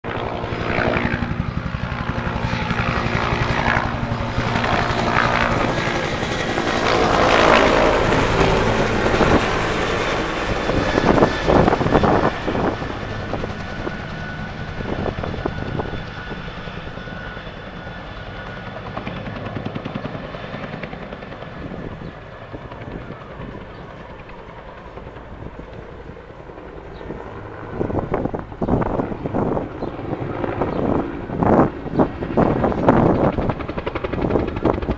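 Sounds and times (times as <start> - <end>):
helicopter flying past: 0.0 - 34.9.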